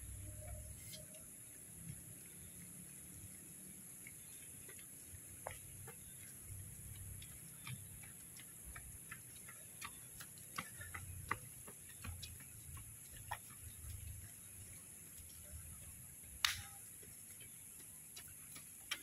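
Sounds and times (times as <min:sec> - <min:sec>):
faint ticks and clicks: 0:00.0 - 0:19.0.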